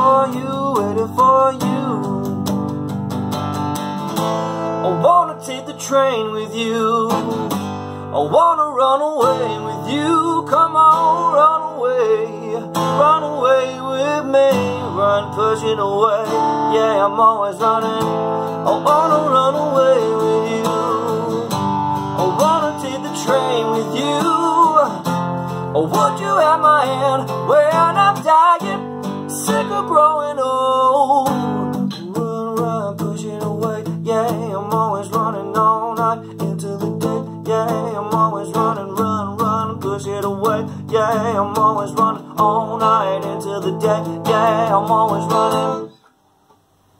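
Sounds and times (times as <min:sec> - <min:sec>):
man singing: 0:00.0 - 0:02.6, 0:04.7 - 0:46.0
acoustic guitar strumming: 0:00.0 - 0:46.1.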